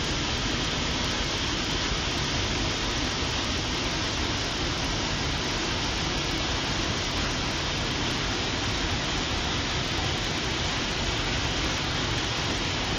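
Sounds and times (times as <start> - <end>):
white water pouring over ledges: 0.0 - 12.9.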